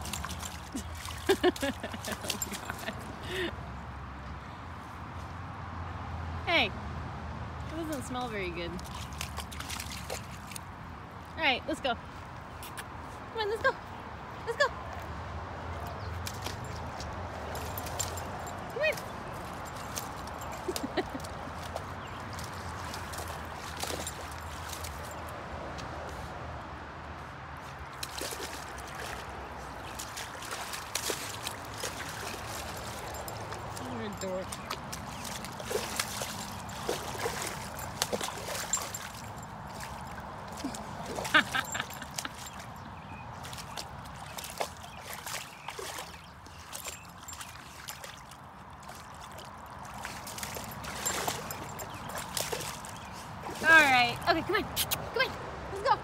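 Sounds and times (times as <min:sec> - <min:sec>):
dog splashing in puddle: 0:00.0 - 0:03.5, 0:07.7 - 0:11.0, 0:14.8 - 0:25.7, 0:27.7 - 0:55.3.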